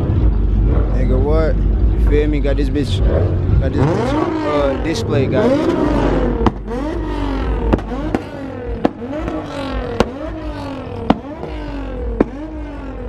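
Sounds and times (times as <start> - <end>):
car engine revving: 0.0 - 13.0
exhaust cracks: 0.0 - 13.0.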